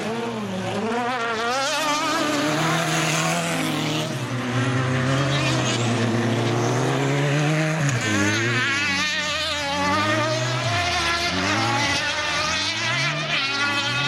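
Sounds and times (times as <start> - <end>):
buggy engine racing: 0.0 - 14.0.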